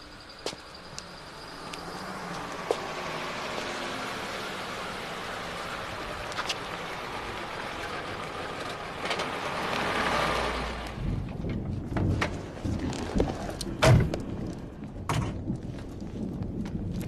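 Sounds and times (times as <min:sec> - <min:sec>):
car engine driving off: 0:00.0 - 0:15.4.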